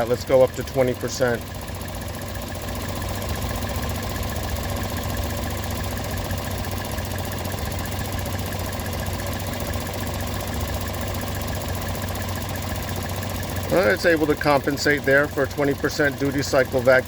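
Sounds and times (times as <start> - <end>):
car engine idling: 0.0 - 17.0
fast even ticking: 0.0 - 17.0.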